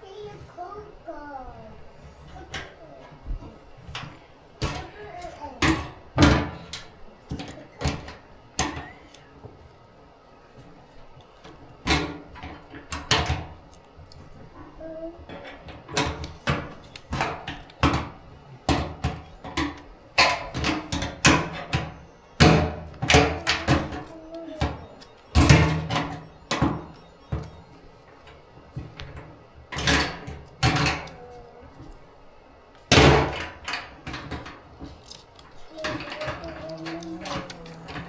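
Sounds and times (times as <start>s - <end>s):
knocks and clanks of work on car: 2.2s - 9.6s, 11.4s - 13.7s, 14.3s - 32.0s, 32.9s - 38.0s.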